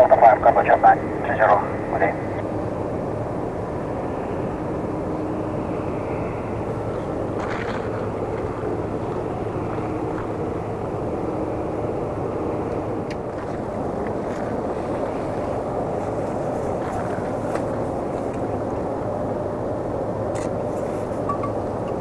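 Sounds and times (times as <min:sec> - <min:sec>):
distant jet engines rolling out: 0:00.0 - 0:22.0.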